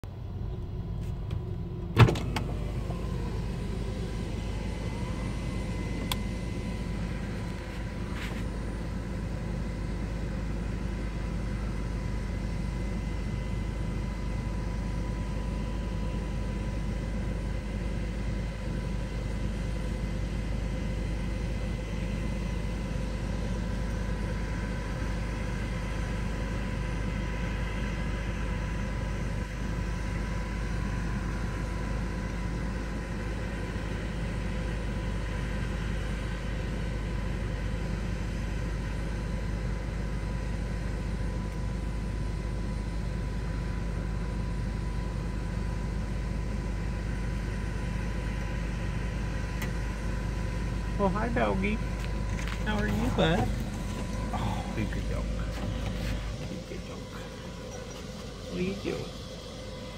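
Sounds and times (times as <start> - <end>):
engine rumble: 0.0 - 59.9
thin steady whine: 0.0 - 59.9.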